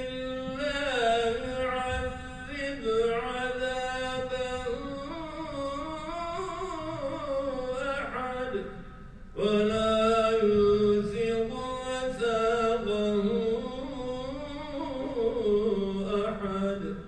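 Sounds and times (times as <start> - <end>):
person chanting unaccompanied: 0.0 - 8.8, 9.4 - 17.0.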